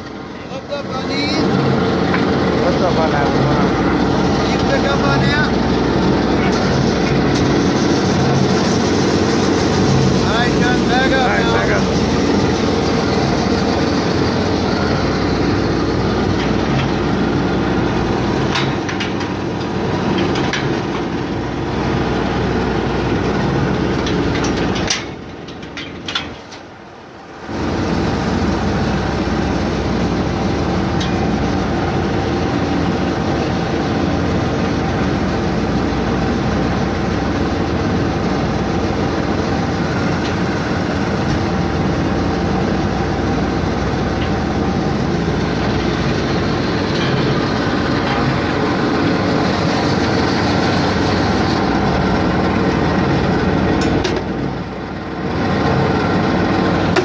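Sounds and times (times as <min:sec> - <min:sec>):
motor running with mechanical rattle: 0:00.0 - 0:57.0.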